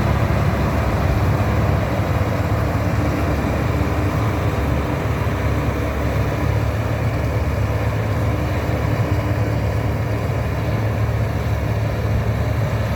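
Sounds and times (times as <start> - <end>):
combine harvester engine humming: 0.0 - 12.9.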